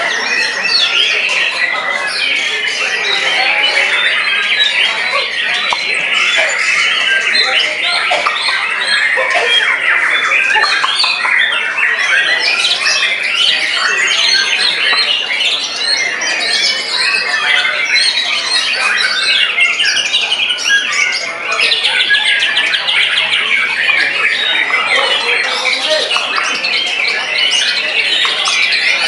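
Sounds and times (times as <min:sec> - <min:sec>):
birds singing: 0:00.0 - 0:29.0
fast bird chattering: 0:00.0 - 0:29.0.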